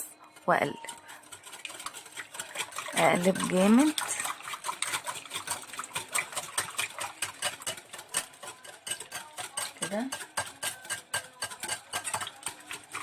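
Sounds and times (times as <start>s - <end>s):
utensil beating mixture in bowl: 0.0s - 13.0s.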